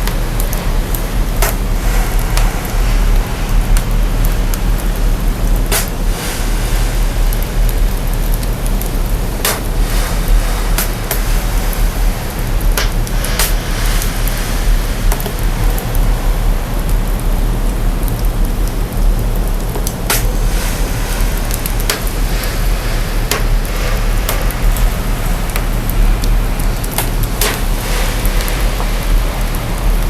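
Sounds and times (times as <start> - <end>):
fire pops and crackles: 0.0 - 2.9, 3.5 - 16.0, 18.2 - 30.0
deep sub-bass rumble: 0.0 - 30.0
fire hissing rush: 0.0 - 30.0.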